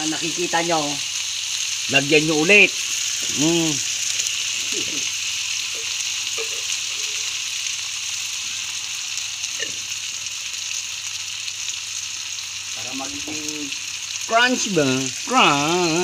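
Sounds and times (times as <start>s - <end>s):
frying in hot oil sizzling: 0.0s - 16.0s.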